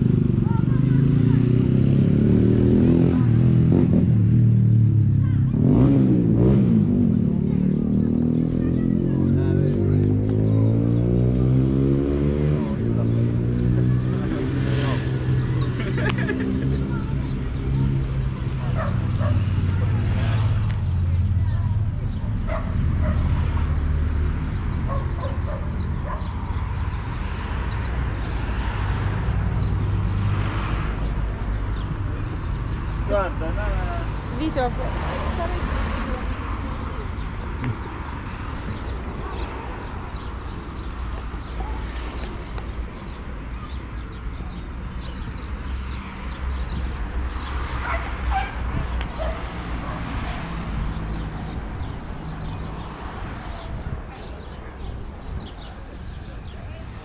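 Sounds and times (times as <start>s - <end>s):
low rumble of street noise: 0.0s - 57.0s.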